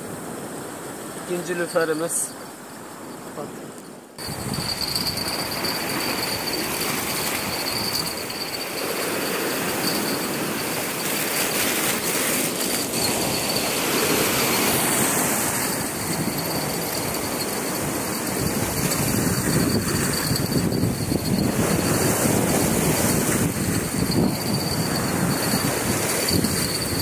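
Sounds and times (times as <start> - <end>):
waves washing on shore: 4.2 - 27.0
wind noise on microphone: 4.2 - 27.0.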